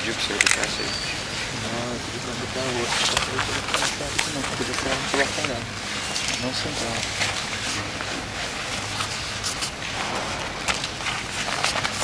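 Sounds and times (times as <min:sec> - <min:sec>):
crowd hubbub: 0:00.0 - 0:12.0.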